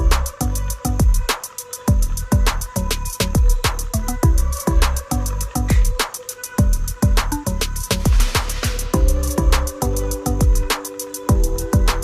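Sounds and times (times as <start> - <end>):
electronic music with fast beat: 0.0 - 12.0.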